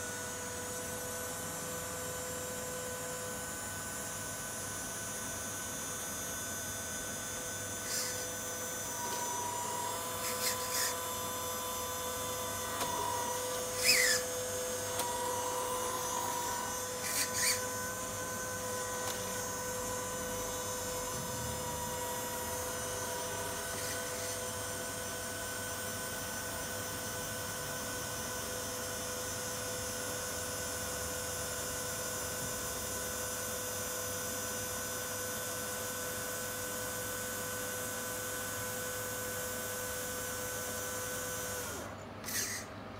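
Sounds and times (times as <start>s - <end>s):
small electric motor whining: 0.0s - 42.8s.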